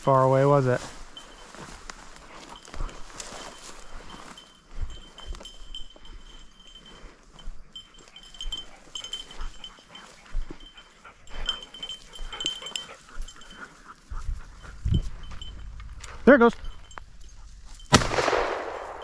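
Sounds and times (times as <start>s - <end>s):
dog collar bell tinkling: 0.0s - 18.0s, 18.6s - 19.0s
rustling in undergrowth: 0.0s - 19.0s
soft footsteps: 0.6s - 17.9s.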